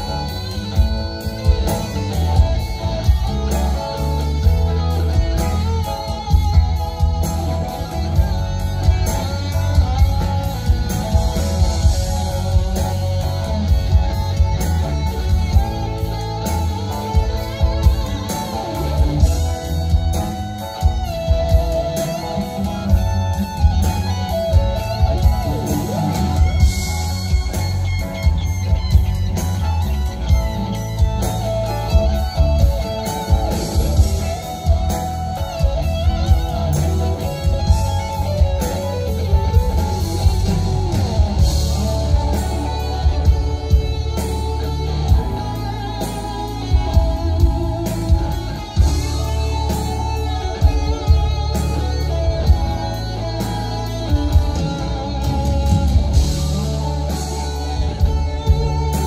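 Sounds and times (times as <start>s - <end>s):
lead electric guitar: 0.0s - 59.0s
live rock band: 0.0s - 59.0s.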